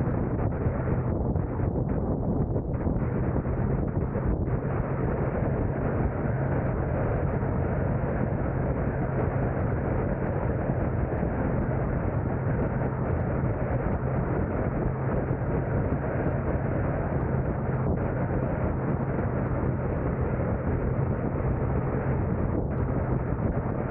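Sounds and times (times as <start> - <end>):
low even hum: 0.0 - 23.9
road and wind noise: 0.0 - 23.9.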